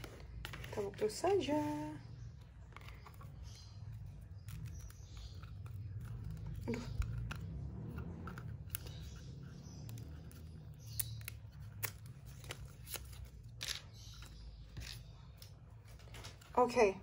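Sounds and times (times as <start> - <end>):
cards clicking and rustling: 0.0 - 1.3, 2.5 - 16.6.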